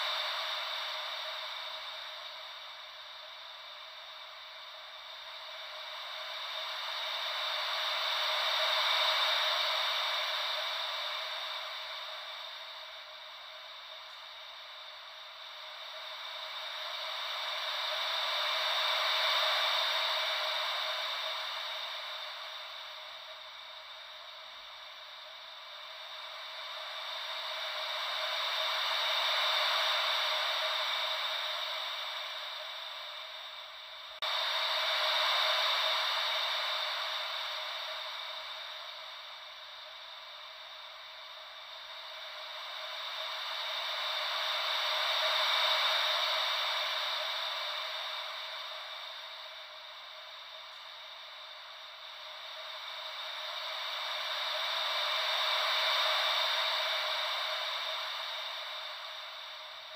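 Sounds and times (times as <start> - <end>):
ocean wave white noise hiss: 0.0 - 59.9.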